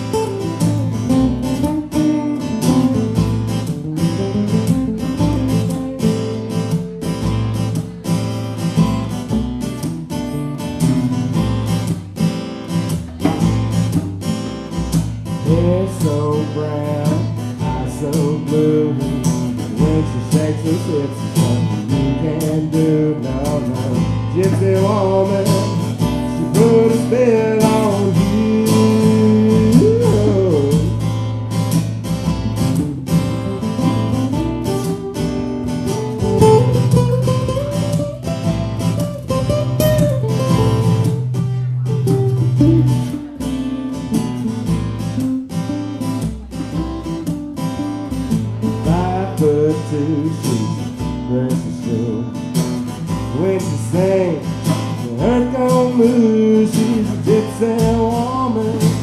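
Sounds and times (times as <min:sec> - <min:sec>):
acoustic guitars strumming chords: 0:00.0 - 0:59.0.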